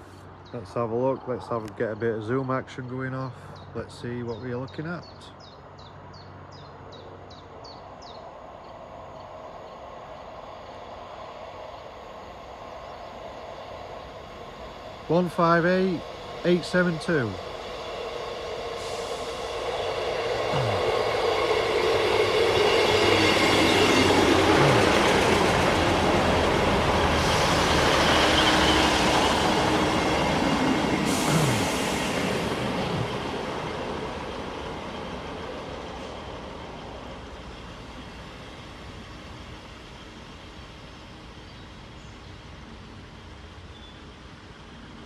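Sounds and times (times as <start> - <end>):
diesel train running past: 0.0 - 45.0.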